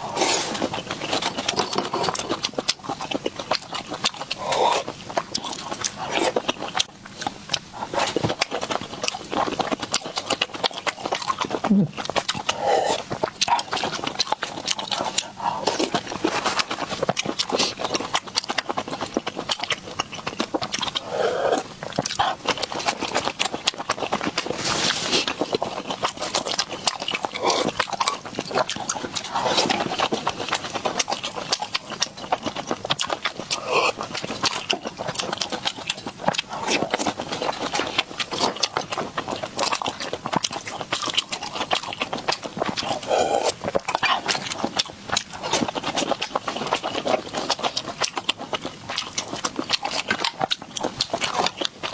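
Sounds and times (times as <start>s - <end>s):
wet chewing and smacking: 0.0s - 51.9s.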